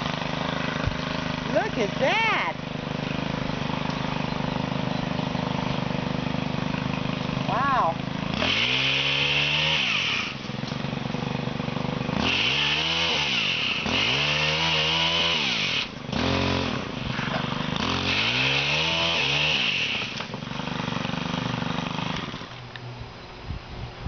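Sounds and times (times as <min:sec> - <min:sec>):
pole saw engine revving: 0:00.0 - 0:22.6.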